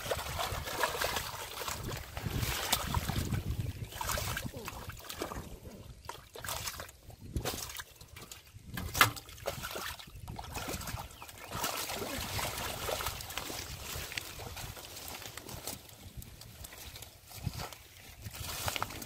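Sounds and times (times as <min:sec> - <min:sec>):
splashing in shallow water: 0:00.0 - 0:19.0.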